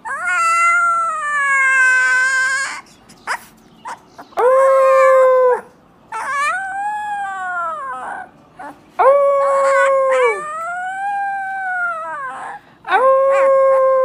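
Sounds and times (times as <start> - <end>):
puppy yelp: 0.0 - 8.8, 9.4 - 12.6
puppy howling: 0.0 - 14.0.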